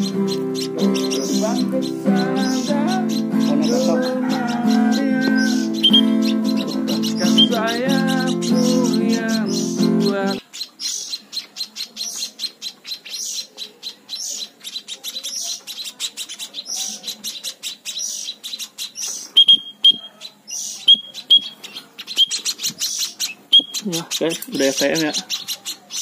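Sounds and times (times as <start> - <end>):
sharp short bird calls: 0.0 - 26.0
young birds begging chirps: 0.0 - 26.0.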